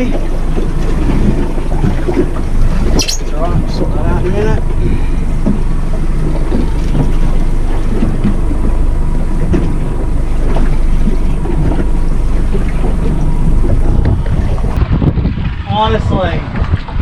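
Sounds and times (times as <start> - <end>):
sea: 0.0 - 17.0
wind buffeting microphone: 0.0 - 17.0.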